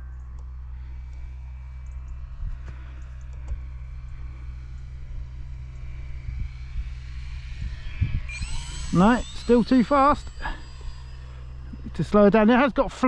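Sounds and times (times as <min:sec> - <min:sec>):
low rumble: 0:00.0 - 0:13.0
model plane motor whining: 0:00.0 - 0:13.0.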